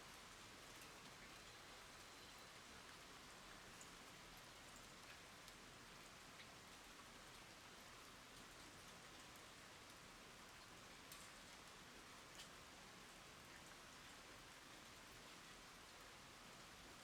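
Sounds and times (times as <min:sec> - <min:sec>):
light rain hiss: 0:00.0 - 0:17.0.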